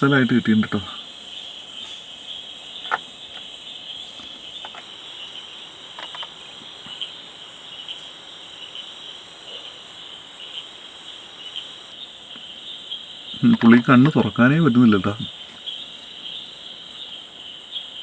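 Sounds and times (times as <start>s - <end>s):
crickets and insects chirping: 0.0s - 18.0s.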